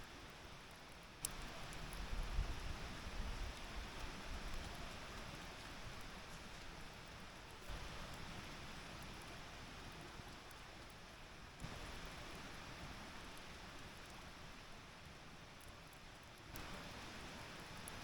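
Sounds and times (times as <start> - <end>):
campfire burning with faint hiss: 0.0 - 18.0
fire crackles: 0.0 - 18.0.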